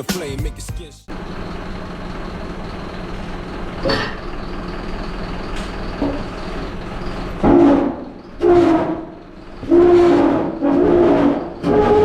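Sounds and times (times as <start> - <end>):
truck engine humming: 0.0 - 11.7.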